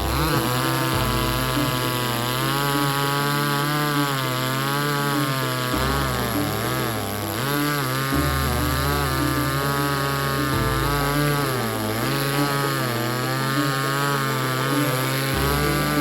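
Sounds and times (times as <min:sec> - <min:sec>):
chainsaw cutting log: 0:00.0 - 0:16.0.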